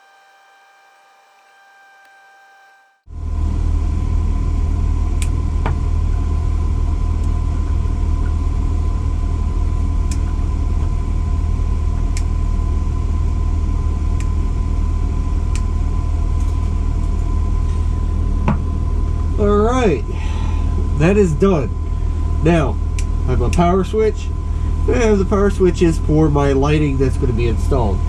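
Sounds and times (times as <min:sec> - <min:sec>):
low hum of fan or motor: 0:00.0 - 0:28.0
thin steady whine: 0:00.0 - 0:28.0.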